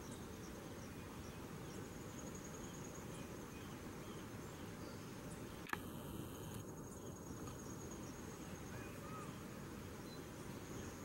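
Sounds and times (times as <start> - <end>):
low background hiss: 0.0 - 11.0.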